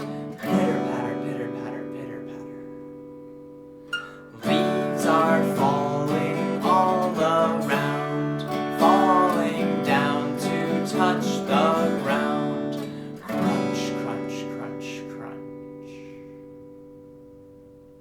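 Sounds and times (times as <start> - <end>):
acoustic guitar chords strummed: 0.0 - 18.0.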